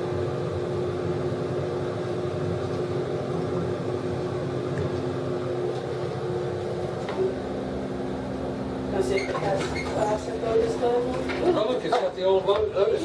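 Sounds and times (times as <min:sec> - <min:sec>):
elevator machinery humming: 0:00.0 - 0:13.0.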